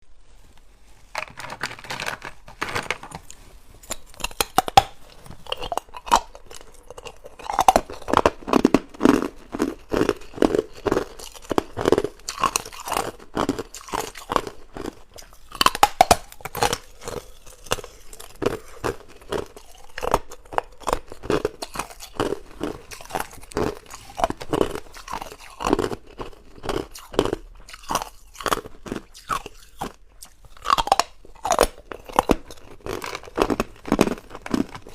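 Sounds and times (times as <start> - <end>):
ice being chewed: 1.2 - 34.9.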